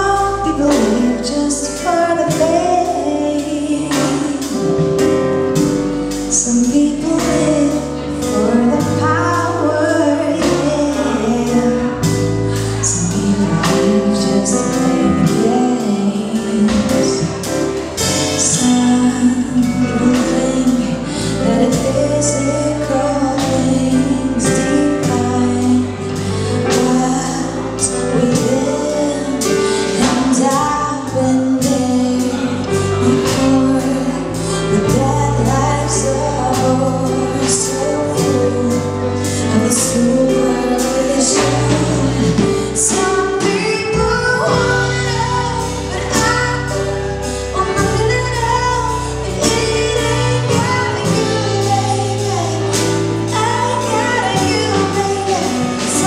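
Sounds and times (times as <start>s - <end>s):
woman singing: 0.0s - 56.0s.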